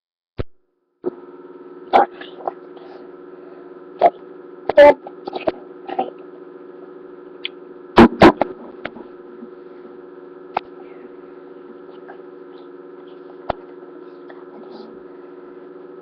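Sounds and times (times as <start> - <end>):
steady electrical hum: 0.6 - 16.0.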